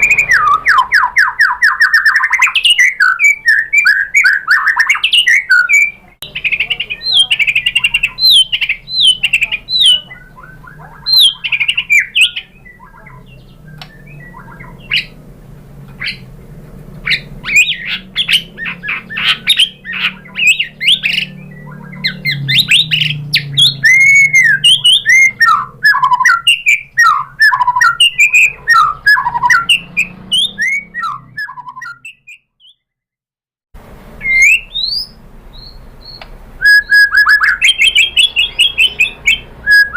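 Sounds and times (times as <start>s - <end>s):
bird singing chirps and whistles: 0.0s - 15.2s, 16.0s - 16.3s, 17.0s - 32.8s, 34.2s - 39.9s.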